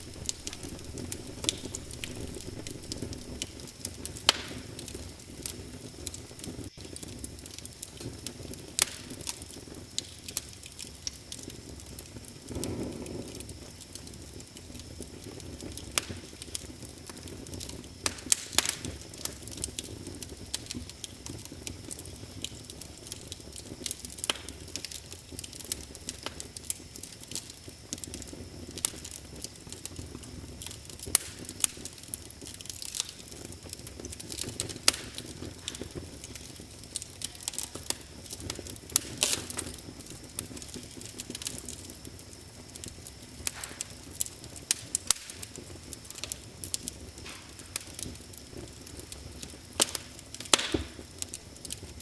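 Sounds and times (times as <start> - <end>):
rush of flames: 0.0 - 52.0
wood fire crackling: 0.0 - 52.0.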